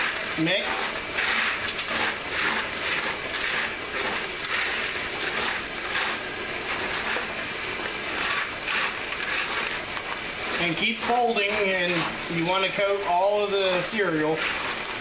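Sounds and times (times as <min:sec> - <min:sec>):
cereal stirred in plastic bowl: 0:00.0 - 0:15.0
steady high hiss: 0:00.0 - 0:15.0.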